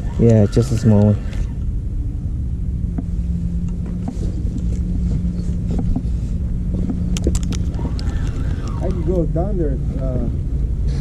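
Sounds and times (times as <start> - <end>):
faint steady hum: 0.0 - 11.0
wind buffeting microphone: 0.0 - 11.0.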